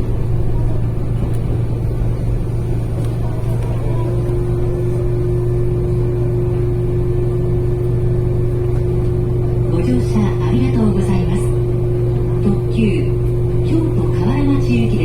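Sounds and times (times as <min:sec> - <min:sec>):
steady hum: 0:00.0 - 0:15.0
train running rumble: 0:00.0 - 0:15.0.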